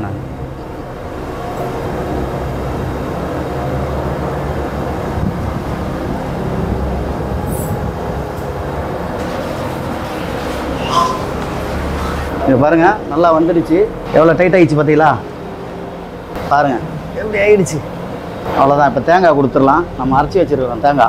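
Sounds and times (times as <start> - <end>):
cooking fire rumbling: 0.0 - 18.4.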